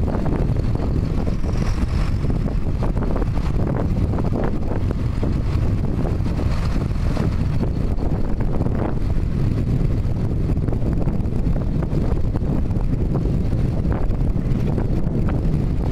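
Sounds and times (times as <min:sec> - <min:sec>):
diesel tractor engines running: 0:00.0 - 0:15.9
wind buffeting microphone: 0:00.0 - 0:15.9.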